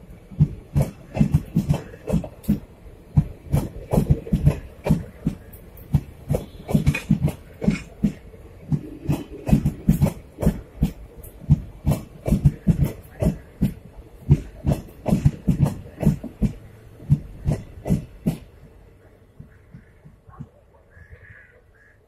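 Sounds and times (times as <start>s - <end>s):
train wheels clacking on track: 0.0s - 20.6s
low train rumble: 0.0s - 22.0s.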